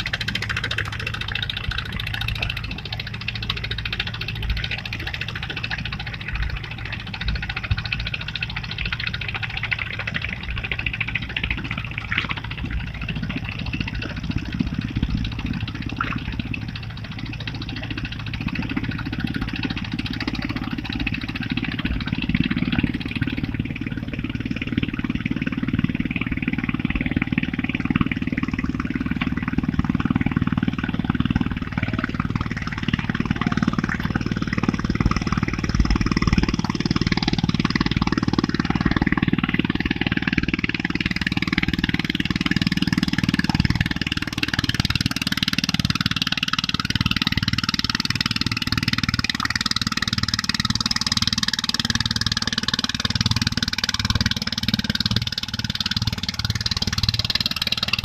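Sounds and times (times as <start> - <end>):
engine low drone: 0.0 - 58.0.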